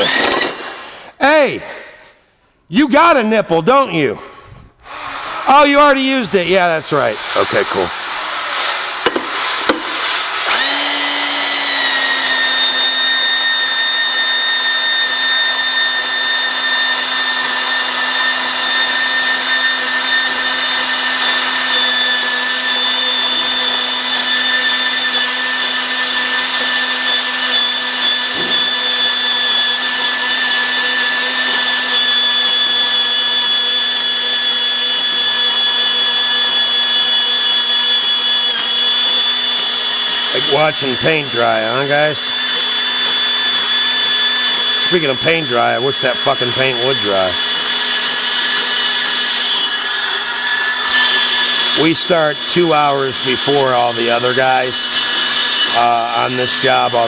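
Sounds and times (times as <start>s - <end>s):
pipe-threading machine whining: 0.0s - 1.1s, 4.8s - 57.0s.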